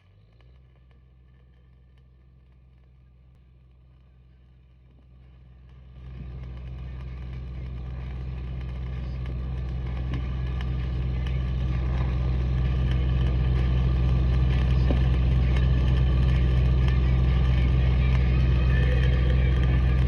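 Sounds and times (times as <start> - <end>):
engine humming deeply: 0.0 - 20.0.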